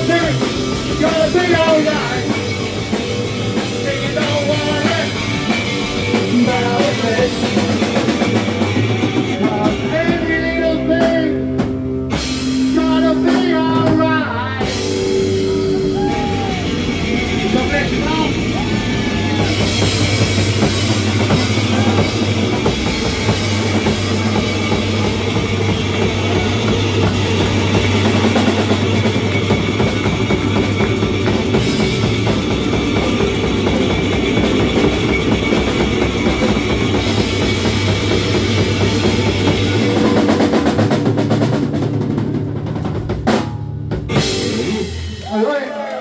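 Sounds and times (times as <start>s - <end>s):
live reggae band playing: 0.0s - 42.4s, 43.0s - 45.4s
drum kit: 0.0s - 45.9s.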